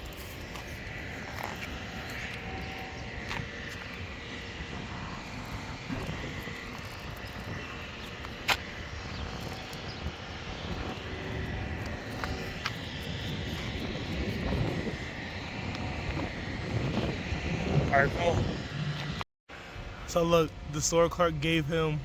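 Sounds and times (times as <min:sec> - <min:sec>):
vehicle engines droning: 0:00.0 - 0:22.0.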